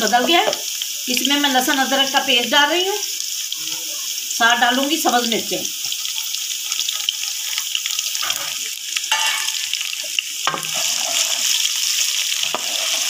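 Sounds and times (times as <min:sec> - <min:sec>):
onions sizzling in hot ghee: 0:00.0 - 0:13.0.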